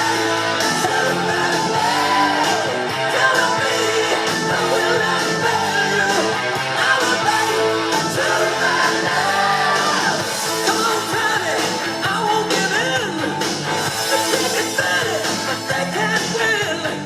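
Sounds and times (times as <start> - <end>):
song with singing over a band: 0.0 - 17.0.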